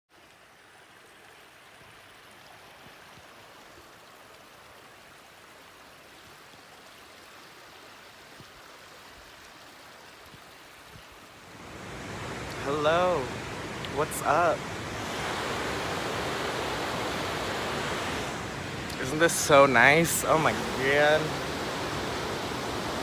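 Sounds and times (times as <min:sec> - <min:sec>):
running water rushing: 0:00.1 - 0:23.0.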